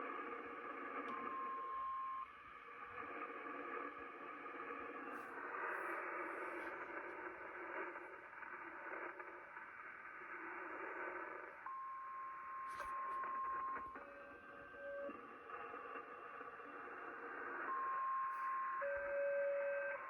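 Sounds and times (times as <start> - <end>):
radio receiver hiss and static: 0.3 - 18.9.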